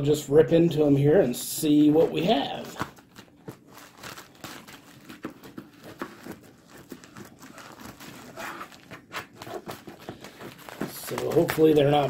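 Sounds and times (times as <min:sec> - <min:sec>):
packaging crinkling and tearing: 0:01.6 - 0:12.0.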